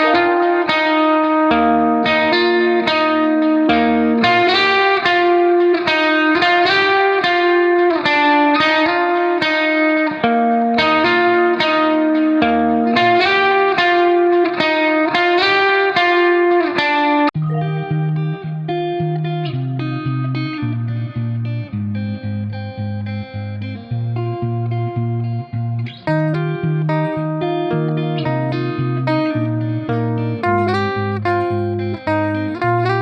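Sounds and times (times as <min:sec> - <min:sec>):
plucked melody music: 0:00.0 - 0:33.0.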